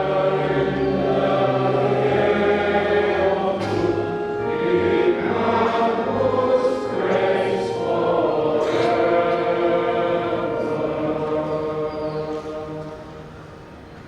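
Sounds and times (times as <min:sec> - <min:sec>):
choir singing hymn: 0:00.0 - 0:14.0.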